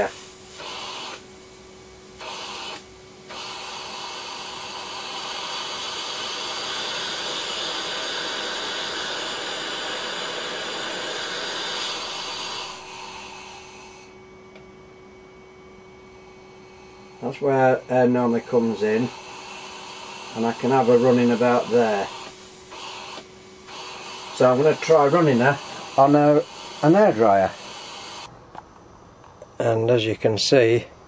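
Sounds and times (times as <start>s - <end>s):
air hissing through valve: 0.0s - 1.3s, 2.2s - 14.2s, 16.6s - 28.3s.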